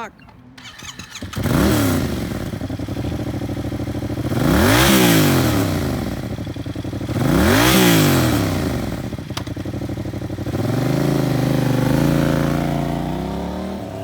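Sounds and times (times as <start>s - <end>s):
motorcycle engine revving: 0.6s - 14.0s.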